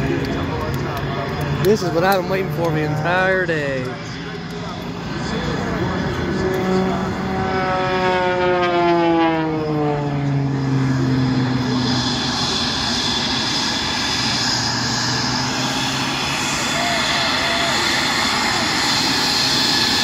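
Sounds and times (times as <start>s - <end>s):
aircraft engine drone: 0.0s - 20.0s
high jet whine: 0.0s - 20.0s.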